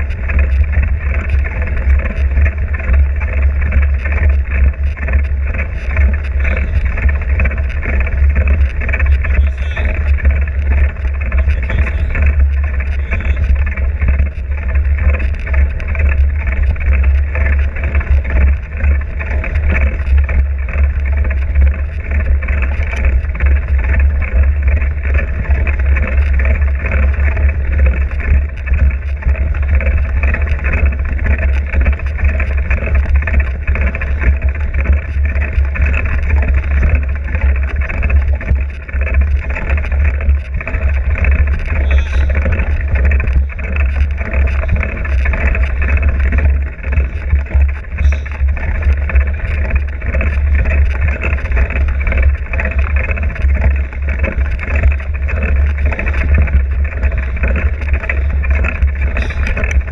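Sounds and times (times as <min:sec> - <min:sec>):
vehicle rumble in motion: 0:00.0 - 0:59.9.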